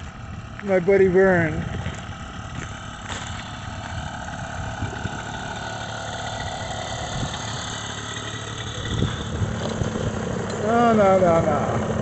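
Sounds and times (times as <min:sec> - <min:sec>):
paramotor engine idling: 0:00.0 - 0:12.0.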